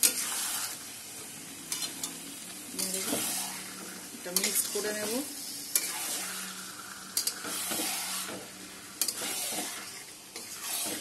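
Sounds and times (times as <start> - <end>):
spatula scraping in pan: 0.0 - 0.9, 1.7 - 2.2, 2.8 - 11.0
food sizzling: 0.0 - 11.0.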